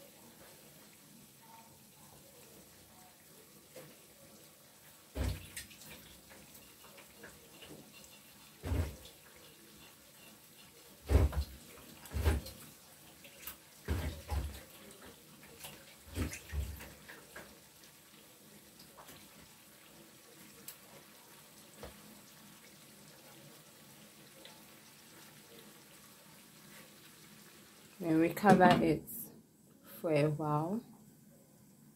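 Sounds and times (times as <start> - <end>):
stew hissing in a pan: 0.0 - 28.3.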